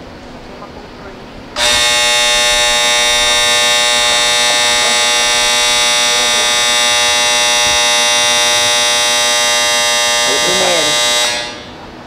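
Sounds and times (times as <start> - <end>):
faint voices: 0.3 - 9.1, 10.2 - 12.0
loud electric buzzer: 1.6 - 12.0.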